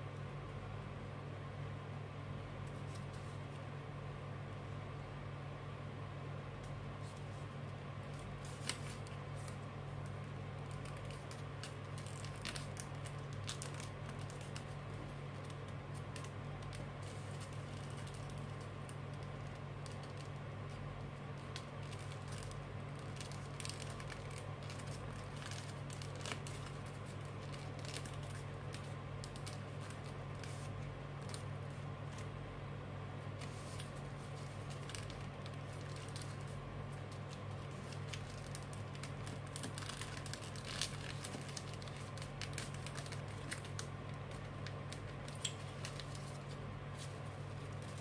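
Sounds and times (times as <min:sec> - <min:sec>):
paper crinkling and rustling: 0:02.7 - 0:03.6, 0:07.0 - 0:32.4, 0:33.2 - 0:48.0.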